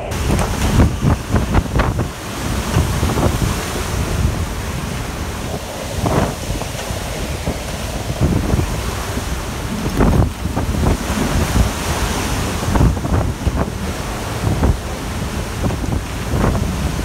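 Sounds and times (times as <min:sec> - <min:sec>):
wind roaring and buffeting microphone: 0:00.0 - 0:17.0.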